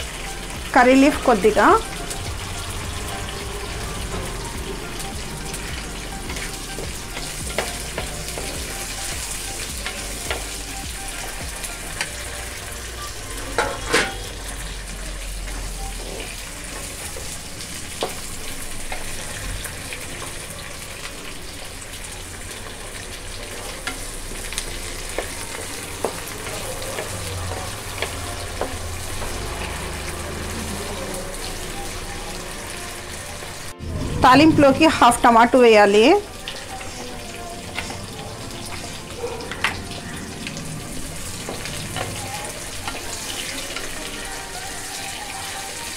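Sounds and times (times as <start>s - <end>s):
spices sizzling in hot oil: 0.0s - 45.9s.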